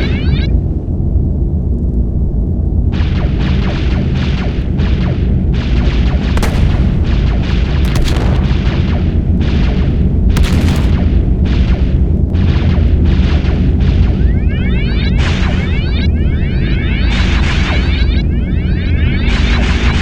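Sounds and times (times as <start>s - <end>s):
deep steady rumble: 0.0s - 20.0s
explosions: 2.9s - 20.0s
weapons fire blasts: 3.0s - 20.0s.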